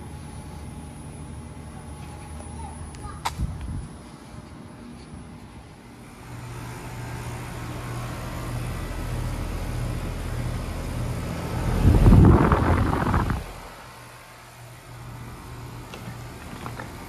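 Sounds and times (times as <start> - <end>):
air conditioner units humming: 0.0 - 17.0
rough rush of fan air: 3.2 - 17.0.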